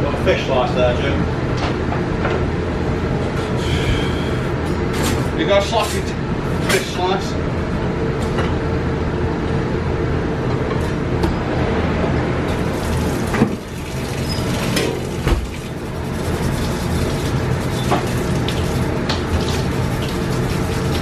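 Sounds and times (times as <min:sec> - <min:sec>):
kitchen extraction hood hum: 0:00.0 - 0:21.0.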